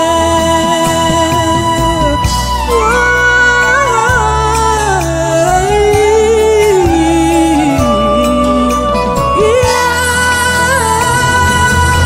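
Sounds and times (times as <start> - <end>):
gospel band instrumental: 0.0 - 12.0.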